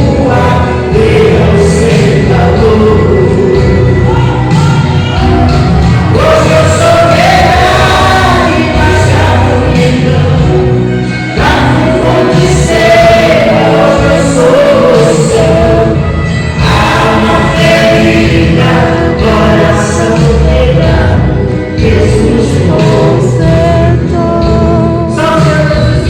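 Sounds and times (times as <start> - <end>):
choir singing a hymn: 0.0 - 24.5
instrumental accompaniment: 0.0 - 26.0.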